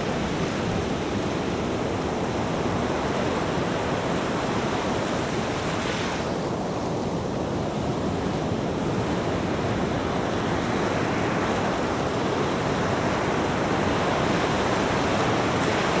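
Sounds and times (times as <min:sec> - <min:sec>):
surf washing on beach: 0:00.0 - 0:16.0.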